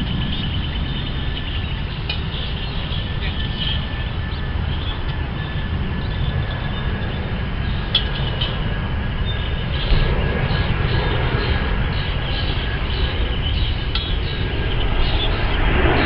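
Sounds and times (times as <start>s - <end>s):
jet airliner engines passing overhead: 0.0s - 16.0s.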